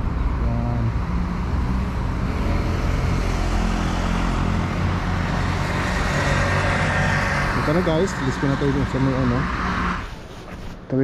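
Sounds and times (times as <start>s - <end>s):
steady low traffic rumble: 0.0s - 11.0s.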